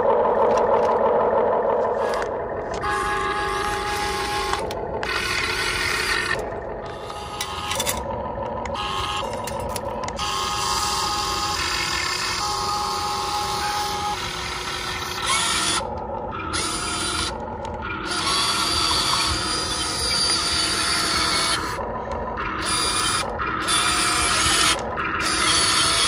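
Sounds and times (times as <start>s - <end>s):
toy truck motors whining: 1.8s - 26.0s.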